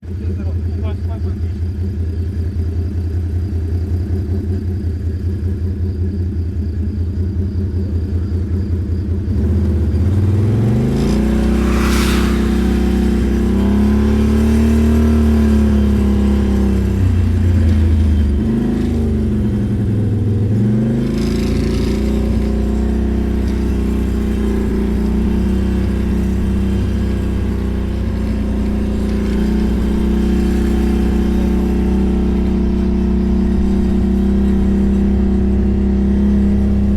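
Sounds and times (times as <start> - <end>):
atv engine idling and revving: 0.0 - 36.9.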